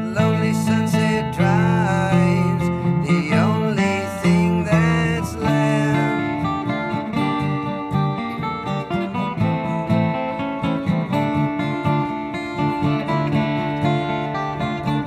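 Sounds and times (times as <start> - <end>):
band playing guitars: 0.0 - 15.0.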